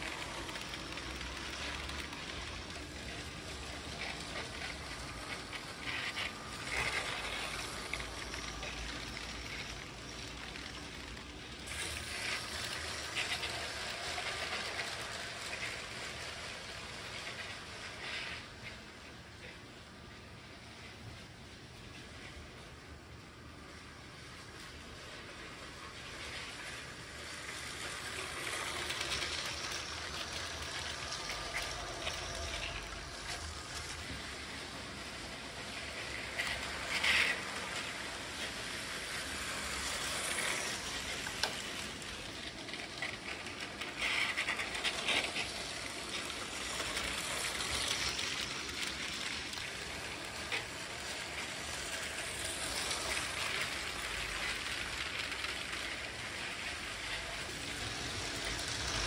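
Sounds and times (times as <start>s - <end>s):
plastic toy train rattling: 0.0s - 21.2s, 23.6s - 59.0s.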